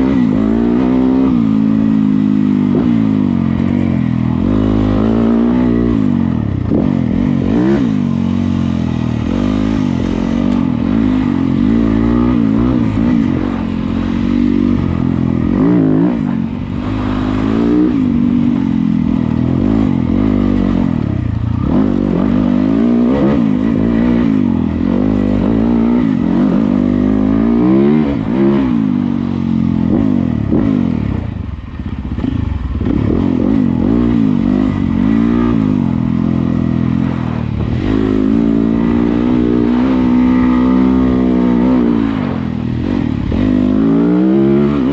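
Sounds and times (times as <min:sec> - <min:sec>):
dirt bike engine revving: 0:00.0 - 0:31.4, 0:32.1 - 0:44.9.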